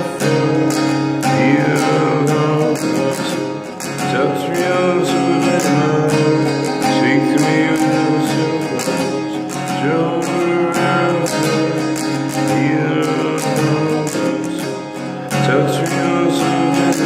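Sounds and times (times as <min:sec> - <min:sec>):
acoustic guitar strumming: 0:00.0 - 0:17.0
man singing: 0:00.0 - 0:17.0.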